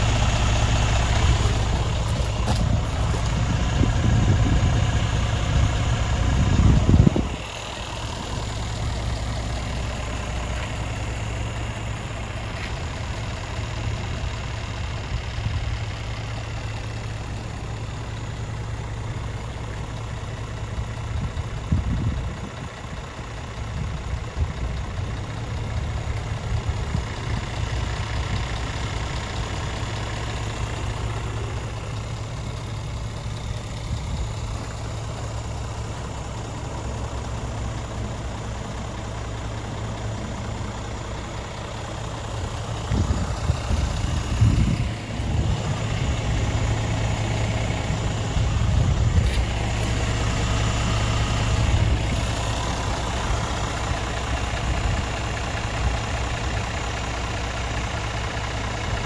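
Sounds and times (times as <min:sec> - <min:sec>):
diesel truck engine idling: 0:00.0 - 0:59.0
irregular engine rumbles: 0:00.0 - 0:59.0.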